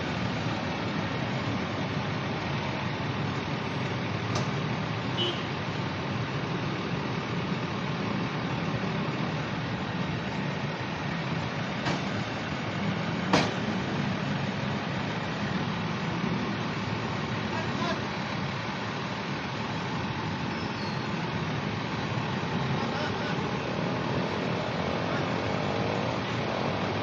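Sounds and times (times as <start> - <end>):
traffic engines idling: 0.0 - 27.0.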